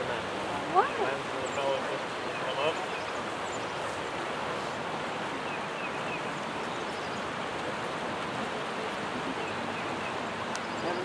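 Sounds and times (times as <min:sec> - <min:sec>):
river rushing over riffle: 0:00.0 - 0:11.0.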